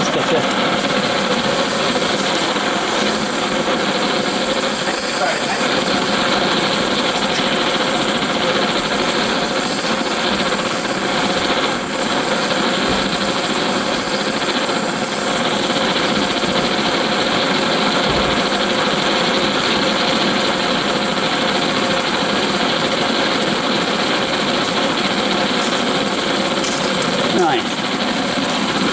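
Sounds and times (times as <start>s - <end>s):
blowlamp burner rushing: 0.0s - 28.9s.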